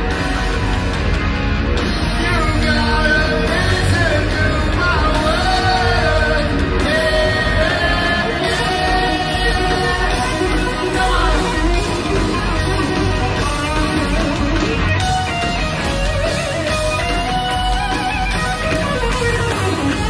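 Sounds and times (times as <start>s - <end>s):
distorted electric guitar: 0.0s - 20.0s
heavy metal band playing: 0.0s - 20.0s.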